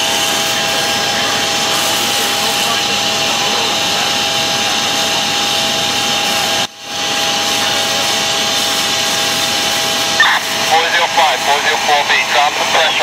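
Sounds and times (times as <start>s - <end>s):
fire truck pump engine roaring: 0.0s - 13.0s.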